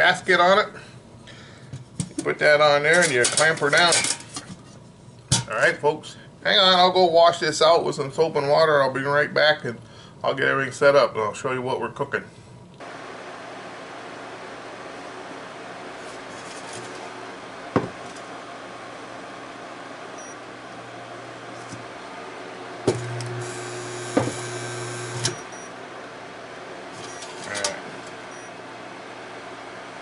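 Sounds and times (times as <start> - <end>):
induction cooktop humming: 0.0 - 30.0.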